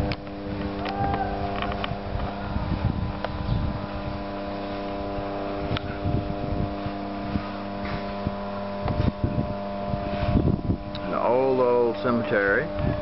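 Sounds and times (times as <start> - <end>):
low rumbling: 0.0 - 13.0
motor humming: 0.0 - 13.0.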